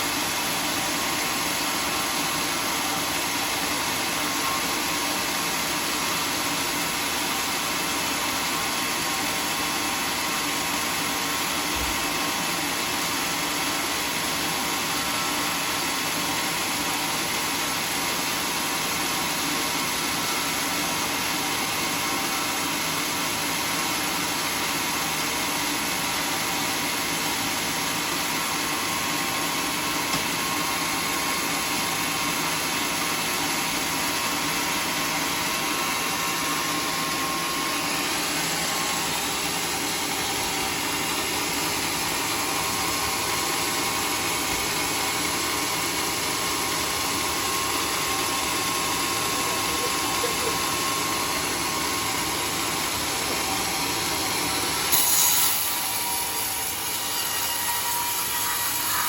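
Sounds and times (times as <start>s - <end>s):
sawmill saw running: 0.0s - 59.0s.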